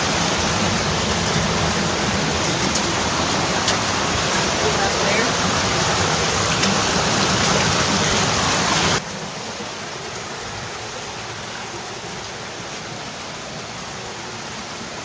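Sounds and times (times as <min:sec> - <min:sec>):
shallow stream rushing: 0:00.0 - 0:15.0.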